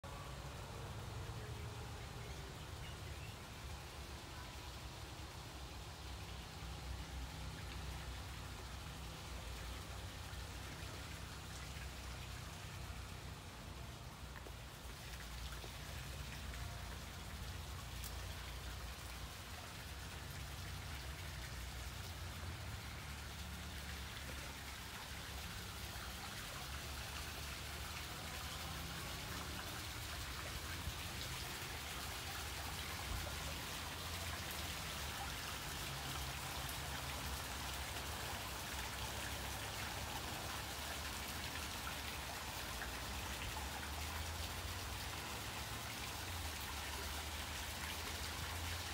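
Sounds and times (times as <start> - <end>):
waterfall splashing over rocks: 0.0 - 48.9.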